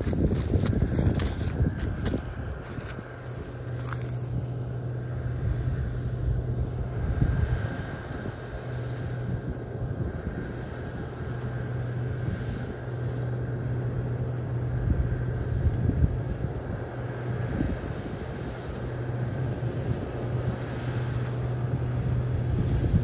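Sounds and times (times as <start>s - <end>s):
combine harvester droning: 0.0s - 23.0s
wind buffeting microphone: 0.0s - 23.0s.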